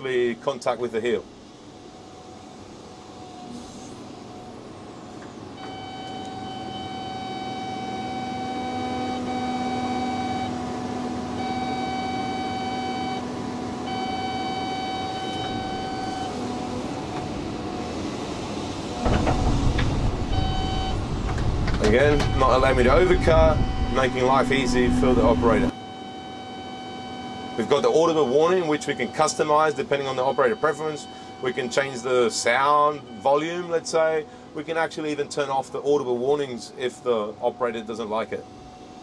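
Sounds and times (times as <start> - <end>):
steady warning tone: 0.0 - 38.7
excavator engine and hydraulics: 0.0 - 39.0.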